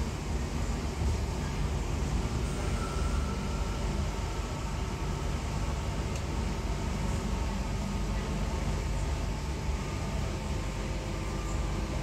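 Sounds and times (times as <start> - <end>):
faint steady whine: 0.0 - 12.0
train interior running rumble: 0.0 - 12.0.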